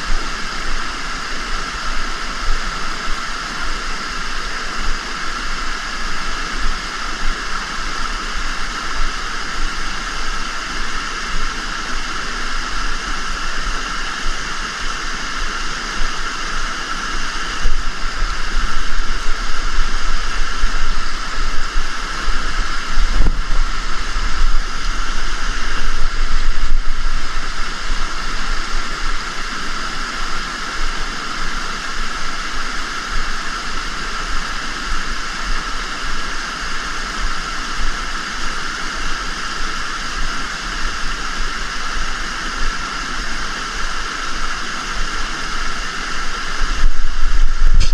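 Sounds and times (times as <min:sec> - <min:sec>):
river rushing over rocks: 0:00.0 - 0:47.9.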